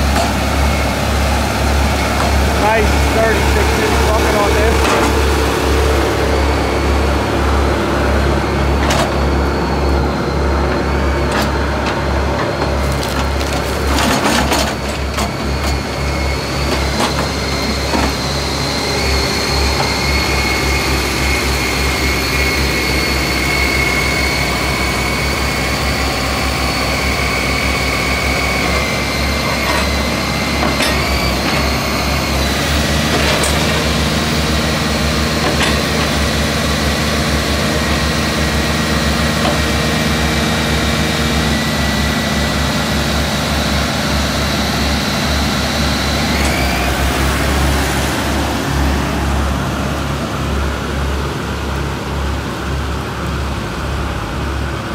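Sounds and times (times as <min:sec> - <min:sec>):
diesel engine rumbling: 0:00.0 - 0:54.9
high engine whine: 0:00.0 - 0:54.9.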